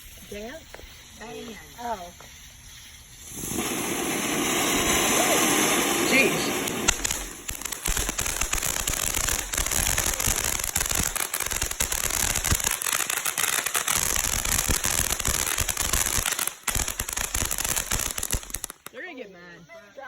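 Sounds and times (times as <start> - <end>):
firework hissing and crackling: 0.0 - 19.2.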